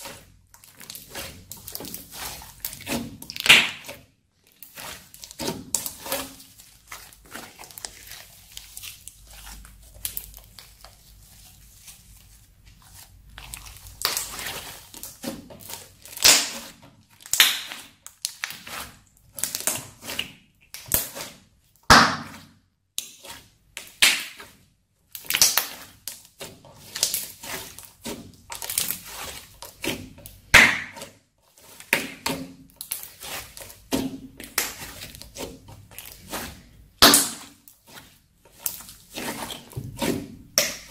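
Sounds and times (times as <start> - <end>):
crunchy slime crackling: 0.0 - 40.9.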